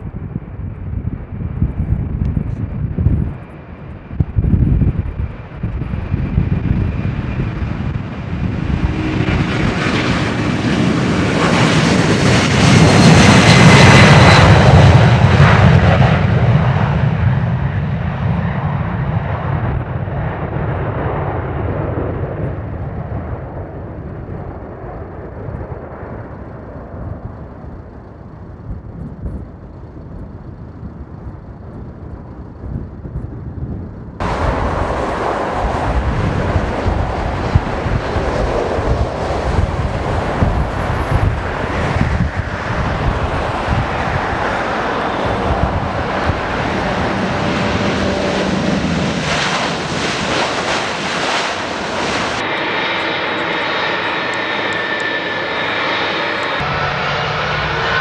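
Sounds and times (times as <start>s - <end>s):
jet engines at takeoff: 0.0s - 58.0s.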